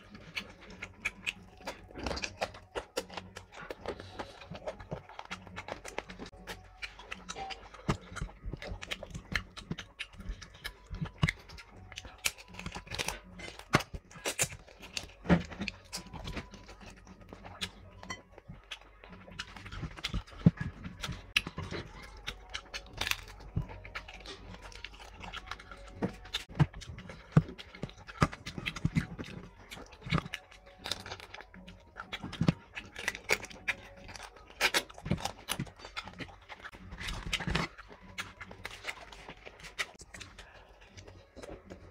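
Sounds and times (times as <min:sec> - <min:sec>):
fingers tearing food: 0:00.0 - 0:41.9
mouth clicks and crunches: 0:00.0 - 0:41.9
wet chewing and lip smacking: 0:00.0 - 0:41.9.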